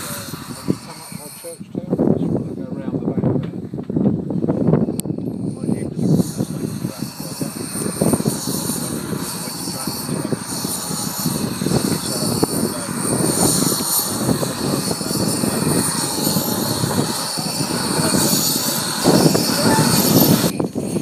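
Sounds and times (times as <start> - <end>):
drain cocks hissing steam: 0.0 - 1.7, 5.4 - 21.0
steam locomotive exhaust chuffing: 0.0 - 1.7, 4.8 - 21.0.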